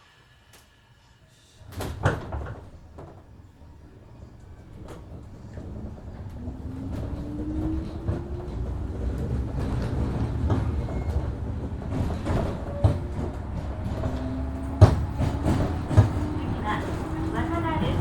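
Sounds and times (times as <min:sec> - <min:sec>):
low train rumble: 0:00.0 - 0:18.0
train traction motor hum: 0:01.6 - 0:18.0.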